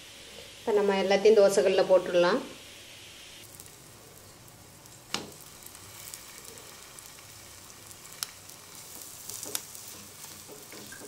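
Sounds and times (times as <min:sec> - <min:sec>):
flatbread sizzling in ghee: 0:00.0 - 0:11.0.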